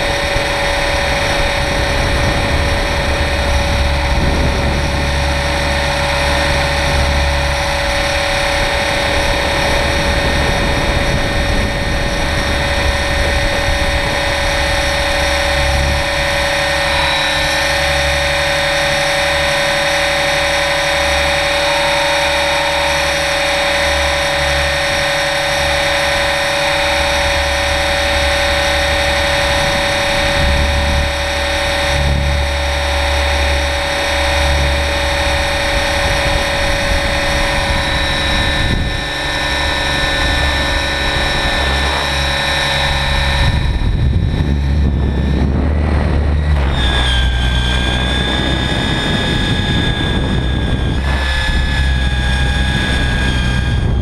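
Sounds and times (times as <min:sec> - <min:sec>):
electric motor whine: 0:00.0 - 0:54.0
helicopter rotor noise: 0:00.0 - 0:54.0
low rumble: 0:00.0 - 0:54.0.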